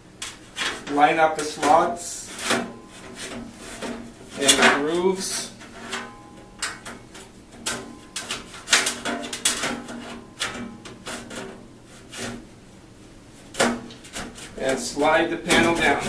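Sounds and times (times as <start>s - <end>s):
steel panels scraping and clanking: 0.0s - 12.7s, 13.3s - 16.0s.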